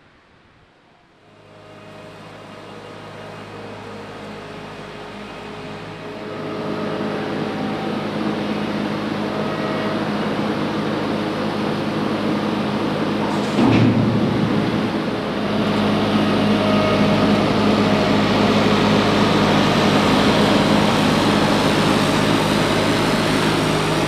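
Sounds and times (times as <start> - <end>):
waste compactor humming: 0.8 - 24.0.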